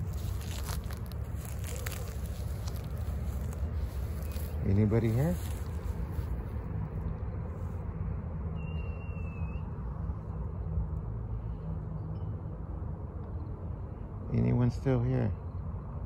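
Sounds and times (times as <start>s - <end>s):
low outdoor rumble and hiss: 0.0s - 16.0s.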